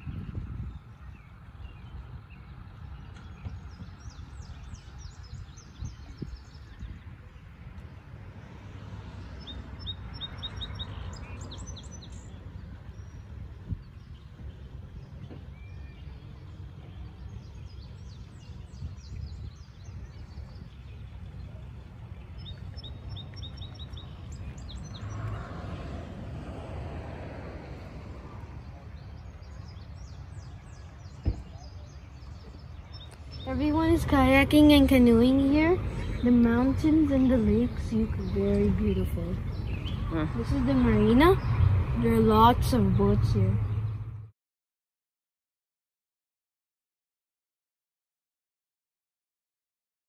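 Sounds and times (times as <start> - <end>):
small birds chirping: 0.0 - 26.2, 27.8 - 44.2.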